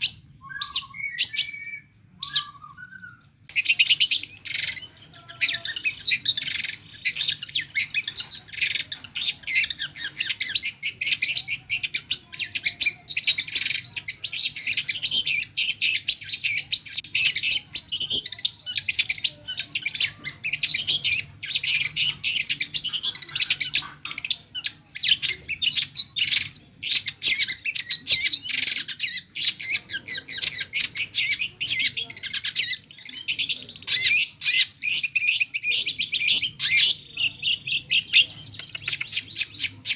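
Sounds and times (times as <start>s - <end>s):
shrike singing chirps: 0.0s - 39.9s.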